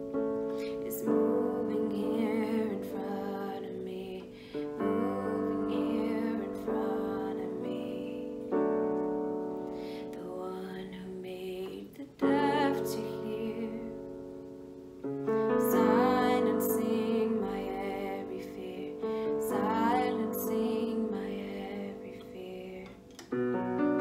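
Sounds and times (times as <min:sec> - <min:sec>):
piano chords: 0:00.0 - 0:24.0
woman singing: 0:00.4 - 0:08.8, 0:09.7 - 0:14.2, 0:15.3 - 0:23.1.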